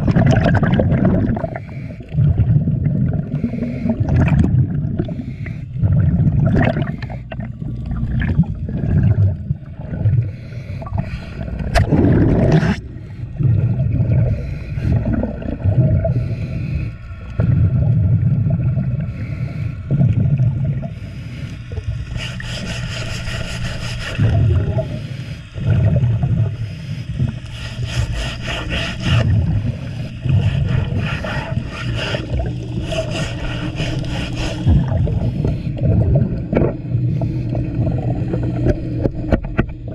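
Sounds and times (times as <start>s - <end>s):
brush scrubbing hull underwater: 0.0s - 39.9s
underwater bubbling and rumbling: 0.0s - 39.9s.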